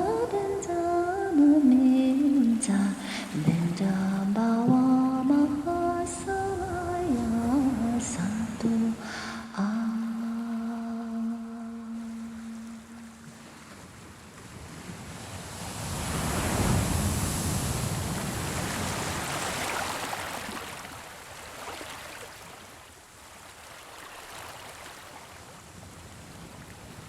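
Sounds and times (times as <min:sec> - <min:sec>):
ocean waves on shore: 0:00.0 - 0:27.0.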